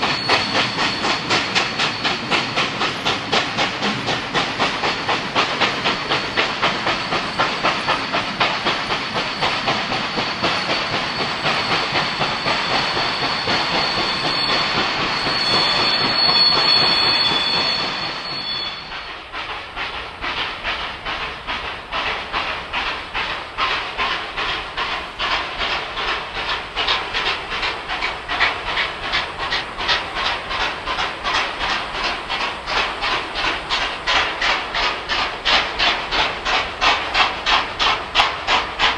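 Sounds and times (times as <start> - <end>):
steam hissing: 0.0 - 38.9
steam locomotive exhaust beats: 0.0 - 38.9.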